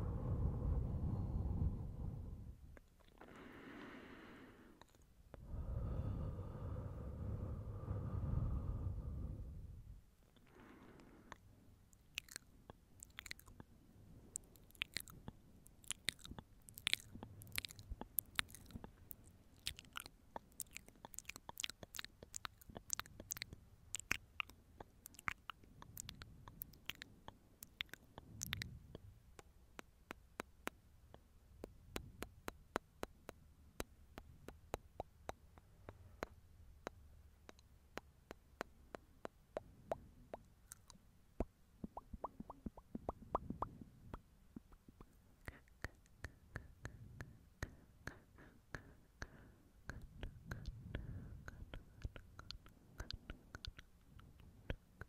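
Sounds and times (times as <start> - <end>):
wet mouth clicks: 2.7 - 3.4, 4.8 - 6.8, 10.4 - 55.0.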